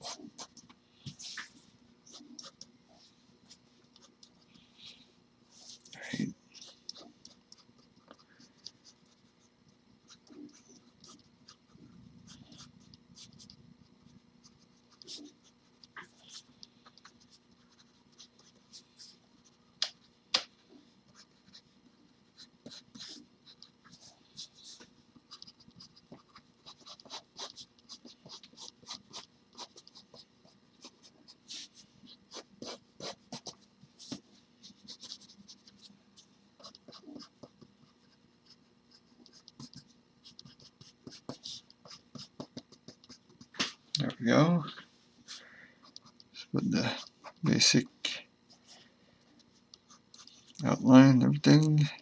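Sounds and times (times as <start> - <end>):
faint low hum: 0.0 - 52.0.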